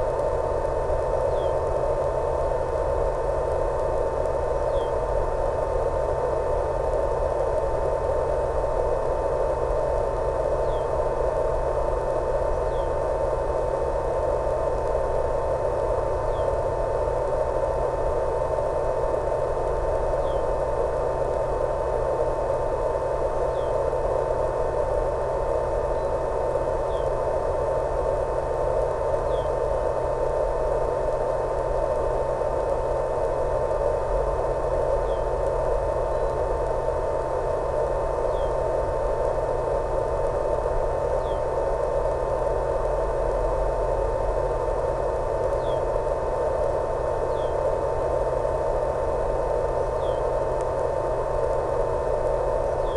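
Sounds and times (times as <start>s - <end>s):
radio static with constant tone: 0.0s - 52.9s.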